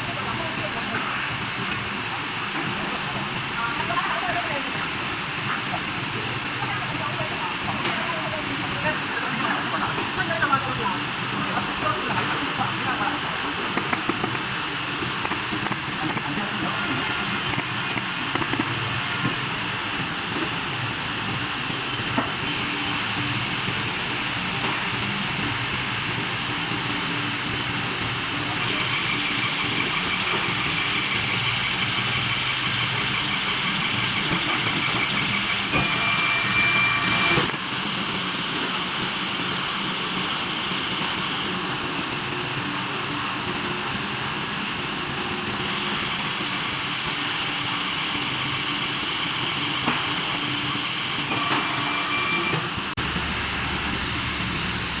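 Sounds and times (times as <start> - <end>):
hot press machine running: 10.8 - 55.0.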